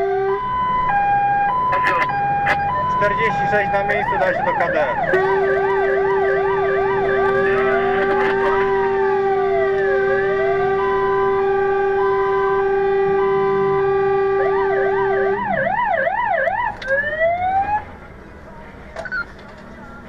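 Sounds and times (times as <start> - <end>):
fire engine siren: 0.0 - 17.9.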